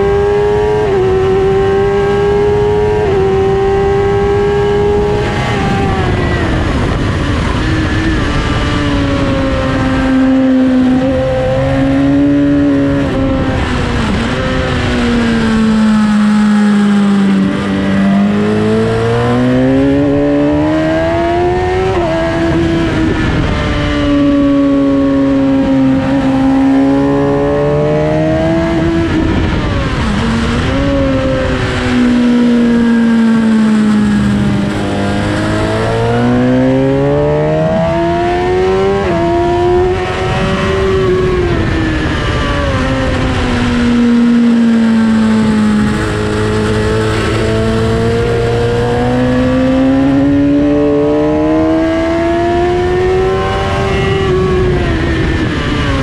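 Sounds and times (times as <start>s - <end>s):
motorcycle engine revving: 0.0s - 56.0s
rushing wind: 0.0s - 56.0s.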